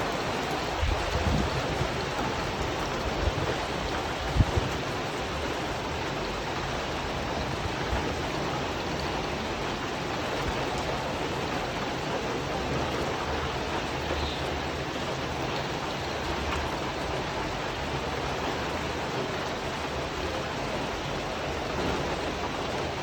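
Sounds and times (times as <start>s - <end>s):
rain on a tin roof: 0.0s - 23.0s.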